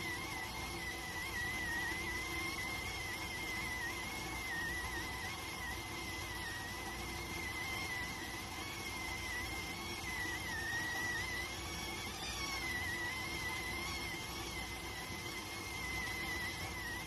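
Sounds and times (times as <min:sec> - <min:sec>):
rice cooker steam whistle: 0:00.0 - 0:17.0.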